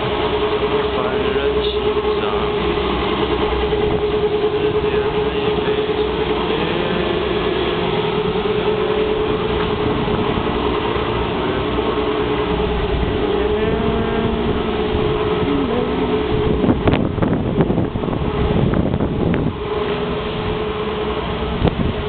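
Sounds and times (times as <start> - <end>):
constant droning tone: 0.0 - 22.0
strong wind buffeting microphone: 0.0 - 22.0.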